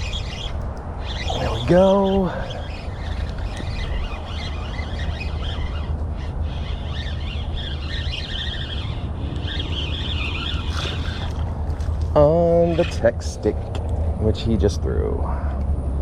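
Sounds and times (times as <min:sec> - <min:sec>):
birds chirping and calling: 0:00.0 - 0:14.0
steady low rumble: 0:00.0 - 0:16.0.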